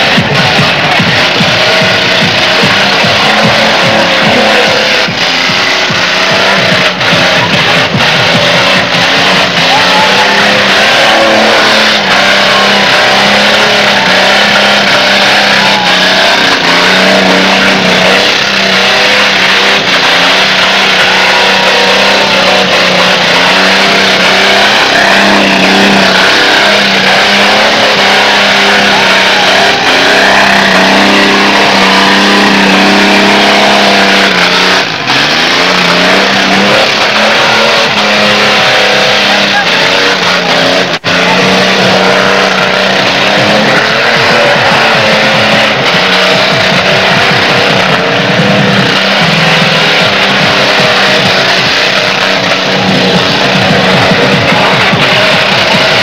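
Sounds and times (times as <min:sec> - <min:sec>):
car engine at high revs: 0:00.0 - 0:56.0
tyres screeching: 0:00.0 - 0:56.0.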